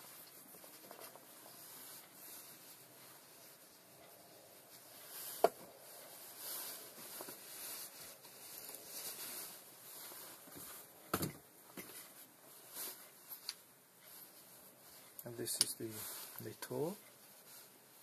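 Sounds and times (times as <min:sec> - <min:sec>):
rustling and handling of tools: 0:00.0 - 0:17.9.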